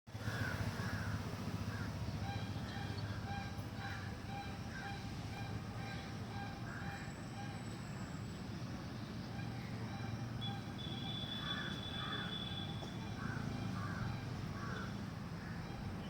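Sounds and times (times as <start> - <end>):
birds calling: 0.2 - 16.0
steady low hum: 0.2 - 16.0.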